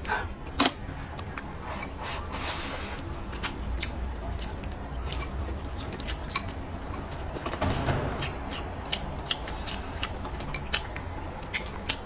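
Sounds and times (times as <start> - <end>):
low steady hum: 0.0 - 12.0
wet chewing and crunching: 0.0 - 12.0.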